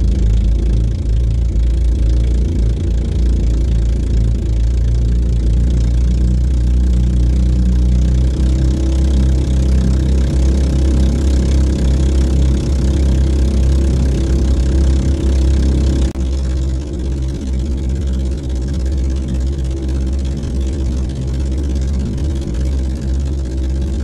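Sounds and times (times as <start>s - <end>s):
boat engine running at high speed: 0.0s - 24.0s.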